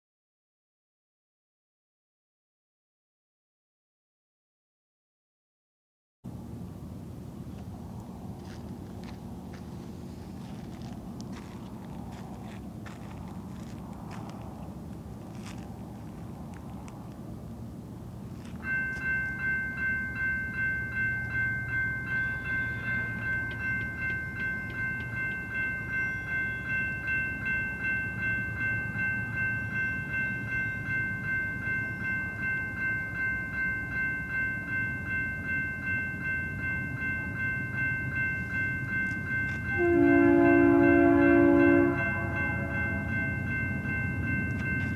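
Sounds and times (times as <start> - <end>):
crossing warning bell ringing: 8.4 - 44.9.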